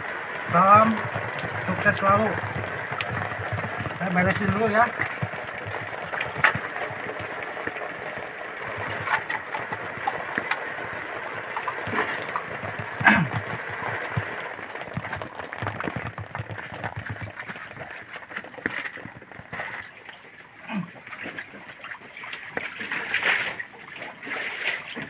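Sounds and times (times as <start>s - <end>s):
heavy rain on a tent: 0.0s - 25.0s
water sloshing and splashing: 0.0s - 25.0s.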